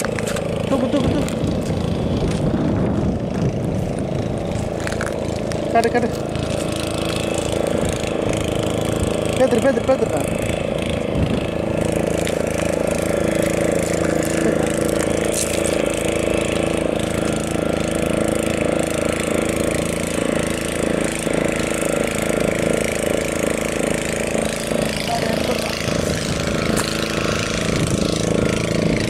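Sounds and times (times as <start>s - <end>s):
motor engine running steadily: 0.0s - 29.0s.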